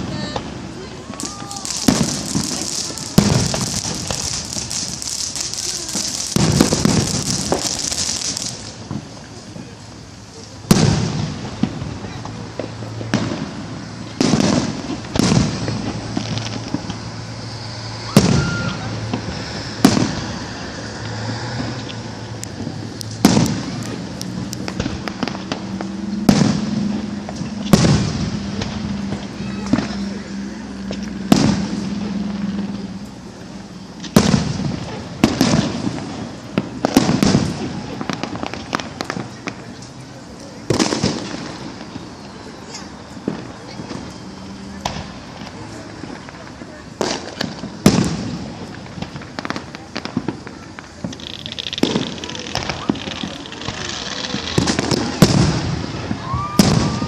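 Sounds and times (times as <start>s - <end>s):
fireworks booming with echo: 0.0s - 57.0s.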